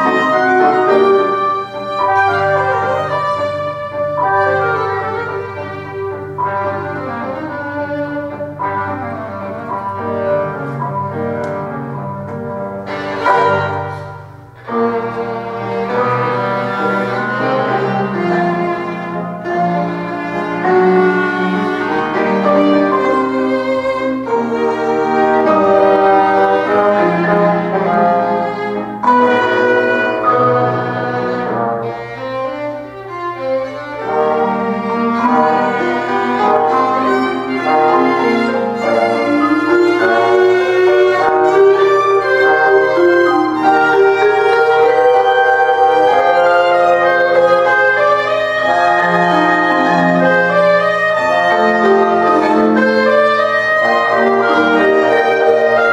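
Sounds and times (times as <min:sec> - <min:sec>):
trombone: 0:00.0 - 0:32.0, 0:34.0 - 0:55.9
clarinet: 0:00.0 - 0:55.9
upright piano: 0:00.0 - 0:55.9
violin: 0:00.0 - 0:55.9.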